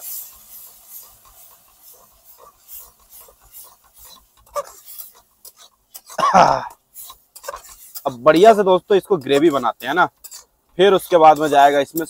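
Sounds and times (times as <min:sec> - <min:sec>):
spatula scraping a metal pan: 0:00.0 - 0:12.0.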